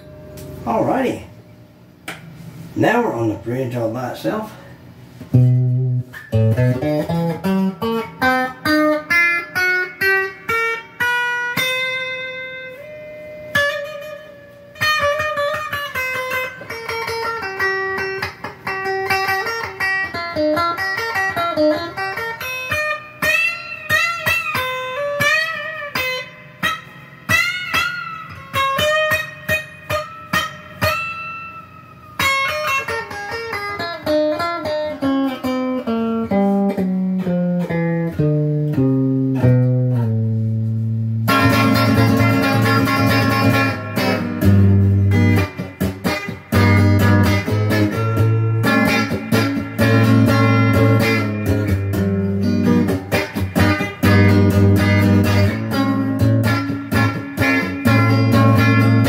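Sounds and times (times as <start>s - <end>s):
electric guitar lead lines: 0.0s - 59.0s.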